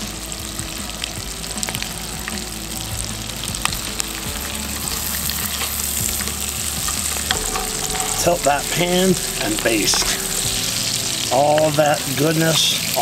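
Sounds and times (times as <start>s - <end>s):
fish sizzling in a frying pan: 0.0s - 13.0s
spatula in a frying pan: 0.0s - 13.0s.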